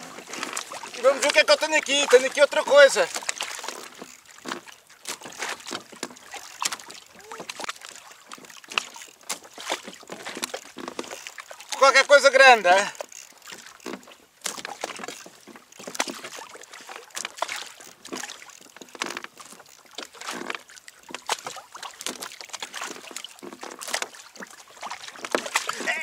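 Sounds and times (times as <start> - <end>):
small knocks and splashes: 0.0 - 26.0
water lapping against kayak hull: 0.0 - 26.0.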